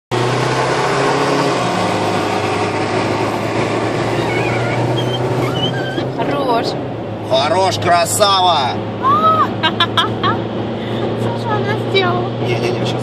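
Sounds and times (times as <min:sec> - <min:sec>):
car engine drone: 0:00.1 - 0:13.0
road and wind noise: 0:00.1 - 0:13.0.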